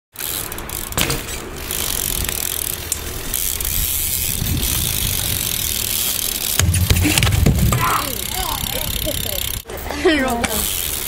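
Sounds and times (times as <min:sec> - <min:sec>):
bike freewheel ticking: 0:00.2 - 0:11.0.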